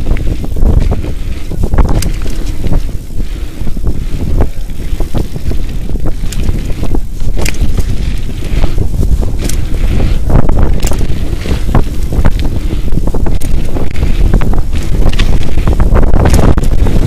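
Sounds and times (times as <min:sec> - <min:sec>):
bike clattering over bumps: 0:00.0 - 0:17.0
bike tyres rolling on gravel: 0:00.0 - 0:17.0
wind buffeting microphone: 0:00.0 - 0:17.0.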